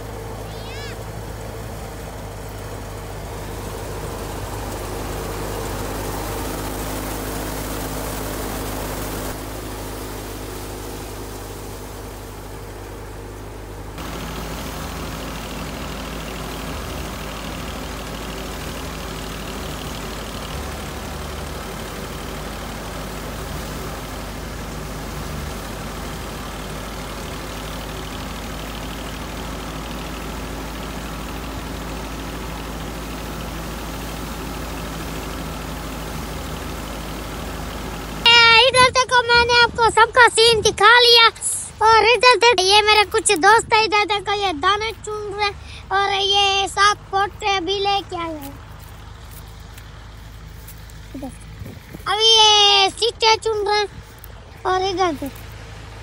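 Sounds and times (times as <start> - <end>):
thresher and engine droning: 0.0 - 56.0.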